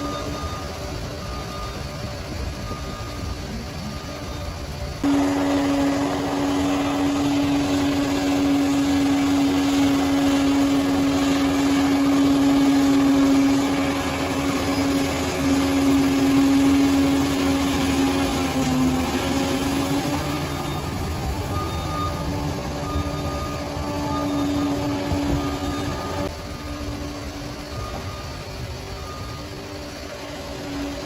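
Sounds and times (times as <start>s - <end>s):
bulldozer engine whining: 0.0s - 31.0s.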